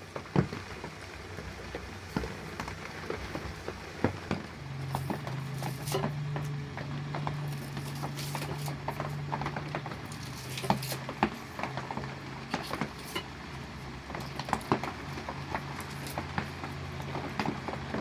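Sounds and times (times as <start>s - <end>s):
rain dripping and pattering: 0.0s - 18.0s.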